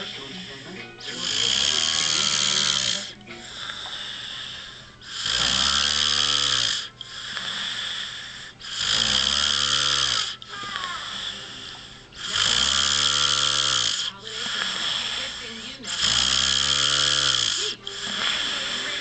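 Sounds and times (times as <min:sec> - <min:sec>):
man snoring: 0:00.0 - 0:19.0
quiet breathing: 0:00.0 - 0:19.0.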